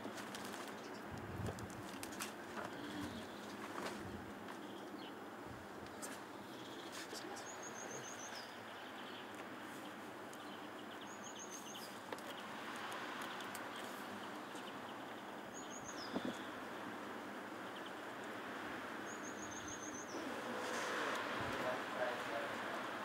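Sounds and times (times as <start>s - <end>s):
faint outdoor ambience: 0.0s - 23.0s.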